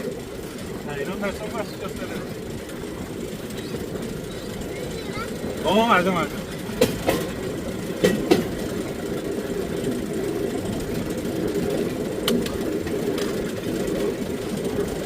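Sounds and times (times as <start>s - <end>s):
steel wheels rolling on rails: 0.0s - 15.0s.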